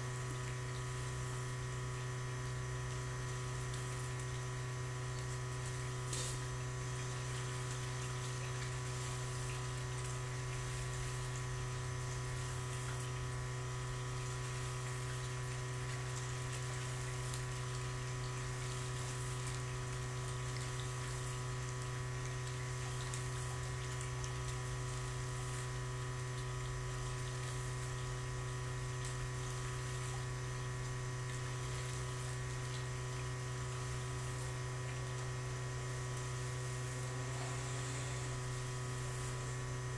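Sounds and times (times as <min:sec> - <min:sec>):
electrical hum: 0:00.0 - 0:39.9
faint hiss of water: 0:00.0 - 0:39.9.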